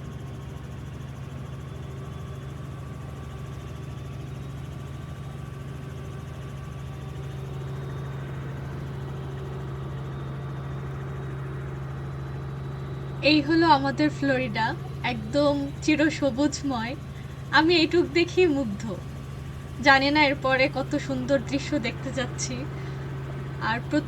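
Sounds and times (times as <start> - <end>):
faint steady tones: 0.0 - 24.0
helicopter rotor and engine drone: 0.0 - 24.0.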